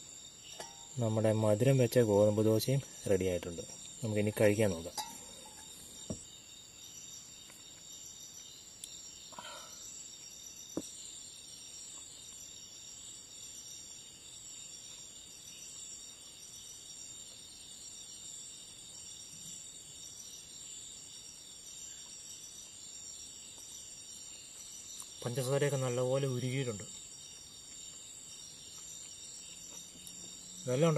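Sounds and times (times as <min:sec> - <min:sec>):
crickets and insects chirping: 0:00.0 - 0:30.9.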